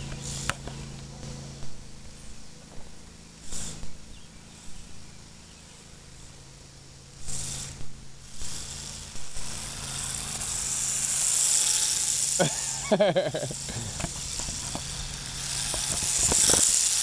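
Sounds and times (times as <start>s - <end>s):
rc car tires hissing on asphalt: 0.0s - 2.4s, 3.2s - 17.0s
low steady hum: 0.0s - 17.0s.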